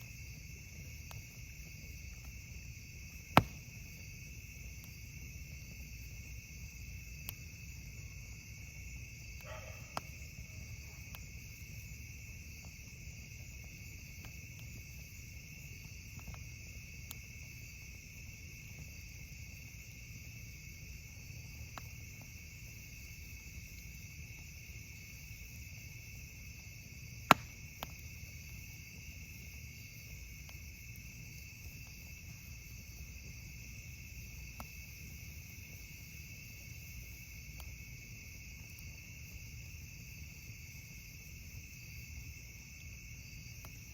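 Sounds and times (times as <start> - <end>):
campfire crackling and popping: 0.0 - 43.9
crickets chirring: 0.0 - 43.9.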